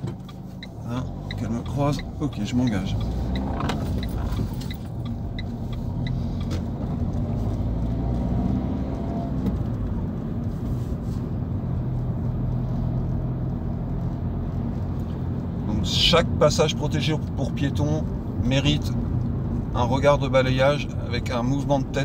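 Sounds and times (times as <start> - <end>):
turn indicator ticking: 0.0 - 10.6, 11.3 - 22.0
car engine accelerating: 0.0 - 22.0.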